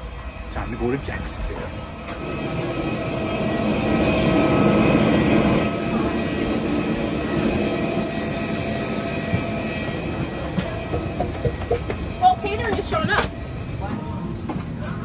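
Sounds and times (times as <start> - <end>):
airliner mechanical drone with whine: 0.0 - 15.0.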